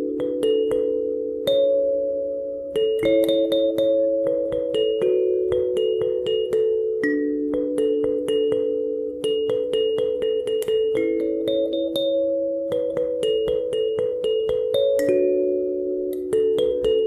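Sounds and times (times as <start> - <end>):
kalimba melody: 0.0 - 17.0.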